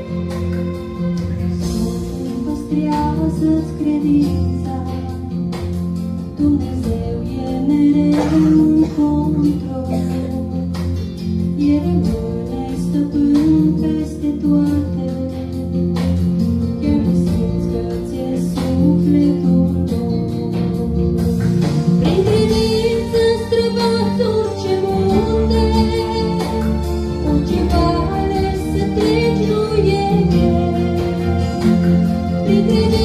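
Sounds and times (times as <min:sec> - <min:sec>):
guitar accompaniment: 0:00.0 - 0:33.0
woman singing into a microphone: 0:01.4 - 0:33.0.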